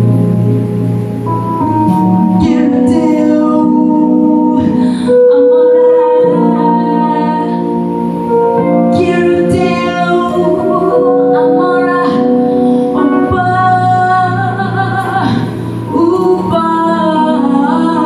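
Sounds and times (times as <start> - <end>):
woman singing: 1.9 - 18.0.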